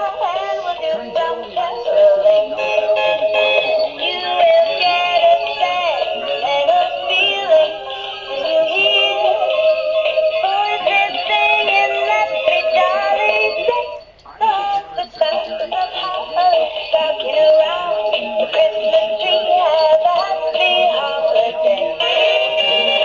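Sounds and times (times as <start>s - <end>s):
musical backing: 0.0s - 23.0s
toy singing with synthetic voice: 0.0s - 23.0s.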